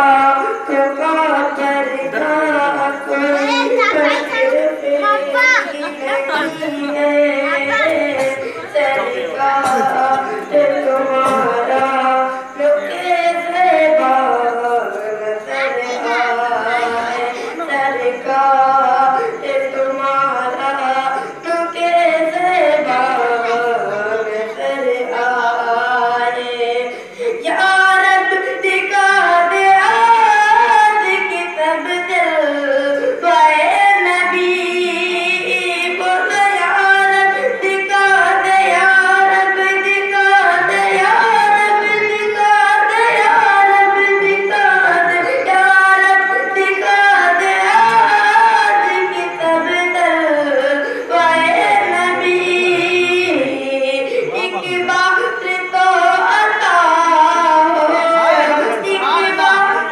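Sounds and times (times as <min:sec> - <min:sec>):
boy singing unaccompanied: 0:00.0 - 0:59.9.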